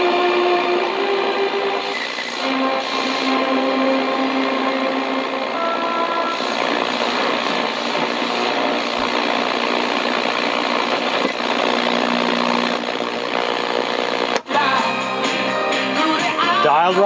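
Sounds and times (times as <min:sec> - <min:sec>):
faint radio station sound: 0:00.0 - 0:14.7
radio static hiss: 0:00.0 - 0:14.8.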